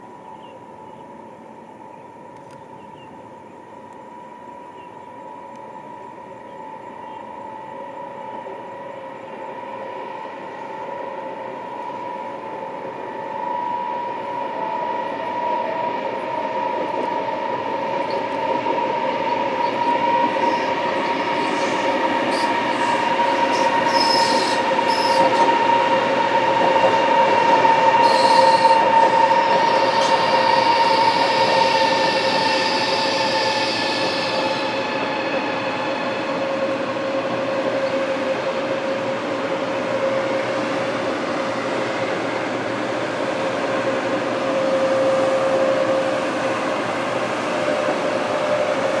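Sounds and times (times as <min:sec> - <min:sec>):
electric train whine: 0:00.0 - 0:49.0.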